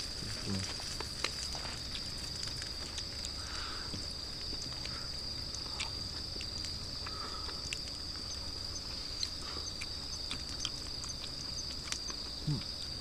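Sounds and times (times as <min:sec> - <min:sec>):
night insects trilling: 0:00.0 - 0:13.0
wood fire crackling: 0:00.0 - 0:13.0.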